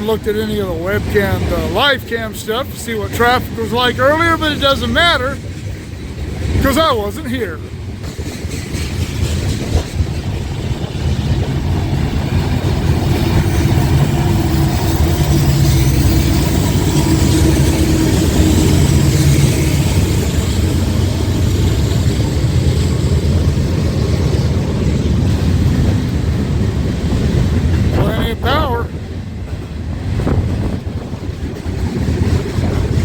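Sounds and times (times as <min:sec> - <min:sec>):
diesel locomotive engines droning: 0:00.0 - 0:33.0.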